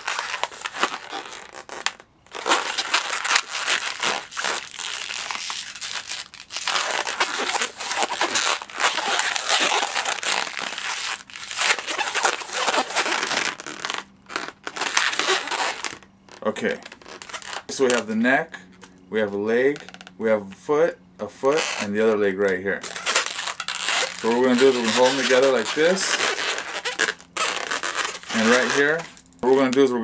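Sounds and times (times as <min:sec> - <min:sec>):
balloon rubbing and squeaking: 0:00.0 - 0:18.1, 0:19.7 - 0:20.1, 0:21.5 - 0:21.9, 0:22.8 - 0:29.2.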